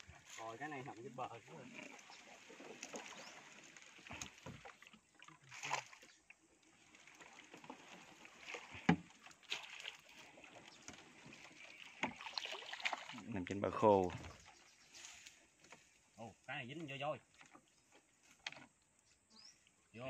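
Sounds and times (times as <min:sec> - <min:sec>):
water sloshing against hull: 0:00.0 - 0:19.9.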